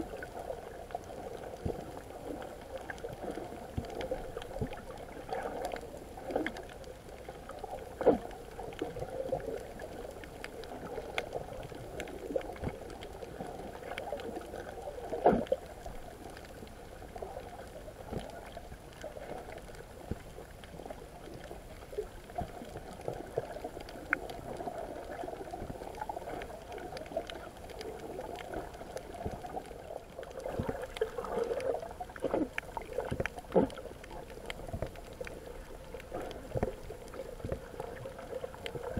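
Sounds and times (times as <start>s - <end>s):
gurgling and bubbling: 0.0s - 38.9s
underwater water rush: 0.0s - 38.9s.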